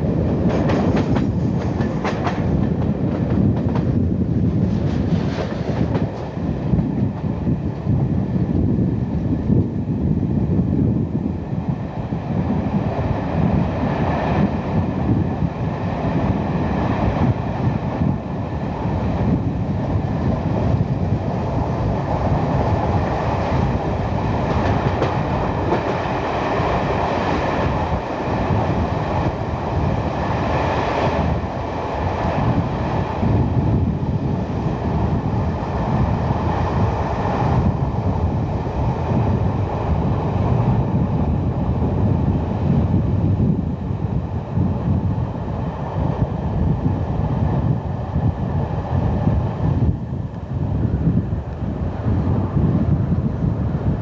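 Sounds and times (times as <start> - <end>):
train wheels on track: 0.0 - 54.0.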